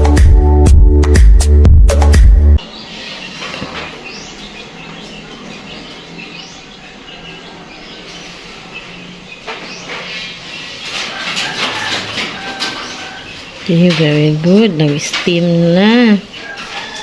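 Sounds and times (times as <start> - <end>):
birds chirping: 2.0 - 17.0.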